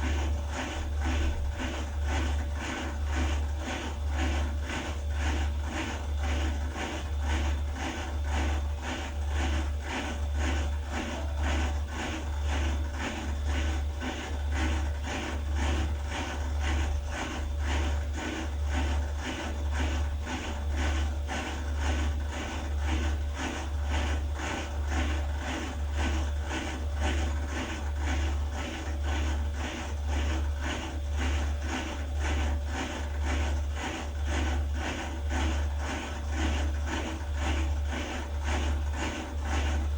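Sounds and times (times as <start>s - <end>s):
washer-dryer humming: 0.0s - 39.9s.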